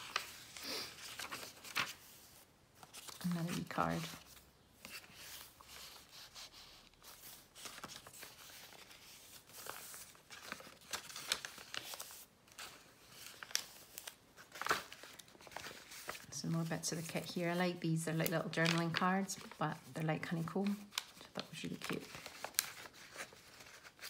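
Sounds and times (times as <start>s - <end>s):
paper rustling and crinkling: 0.0s - 24.0s.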